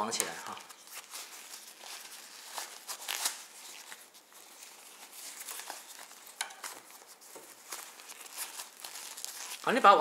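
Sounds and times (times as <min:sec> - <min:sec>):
fabric crinkling and rustling: 0:00.0 - 0:10.0.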